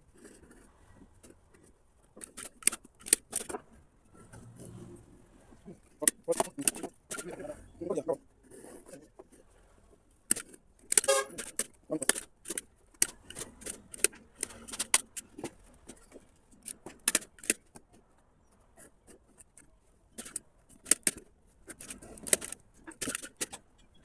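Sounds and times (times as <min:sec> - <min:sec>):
sharp clicks and light knocks: 0:01.2 - 0:04.6, 0:05.7 - 0:07.5, 0:08.4 - 0:24.0.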